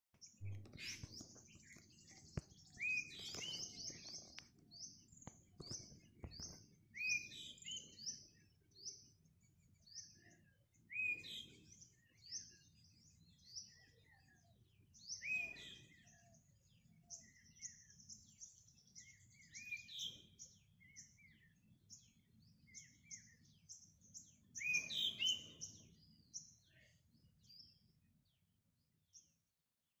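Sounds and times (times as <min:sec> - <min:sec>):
birds chirping: 0:00.2 - 0:28.4.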